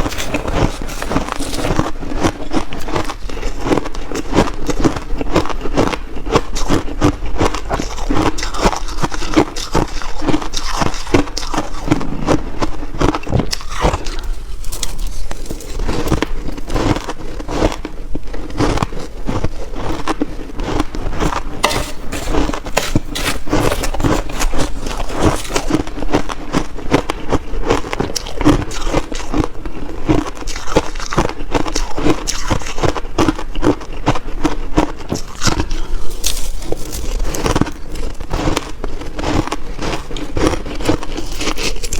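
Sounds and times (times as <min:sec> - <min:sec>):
chewing crunchy shaved ice: 0:00.0 - 0:41.9.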